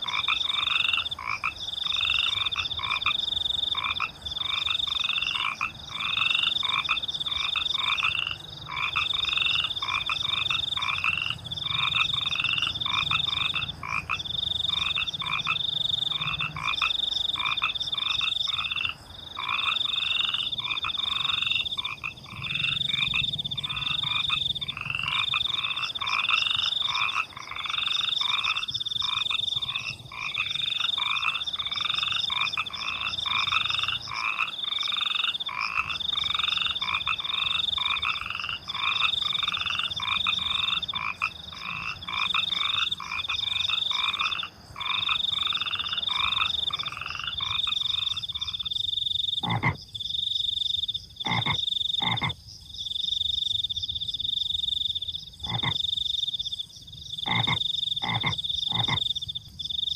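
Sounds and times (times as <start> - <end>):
cricket trill: 0.0 - 59.9
frogs croaking: 0.0 - 59.9.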